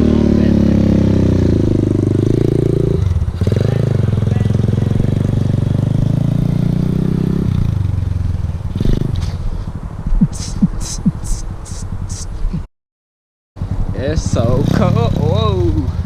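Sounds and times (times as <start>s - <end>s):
dirt bike engine under throttle: 0.0s - 12.4s, 13.6s - 16.0s.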